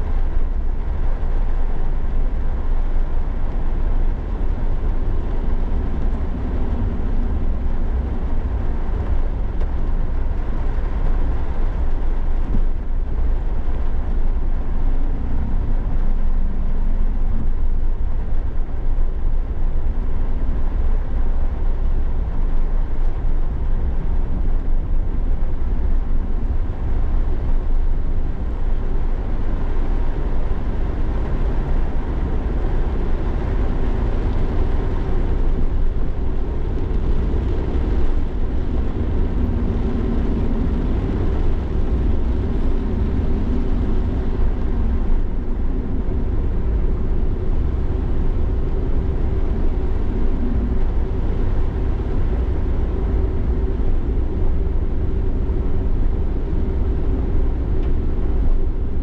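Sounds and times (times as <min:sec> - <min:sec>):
engine and road noise rumble: 0:00.0 - 0:59.0.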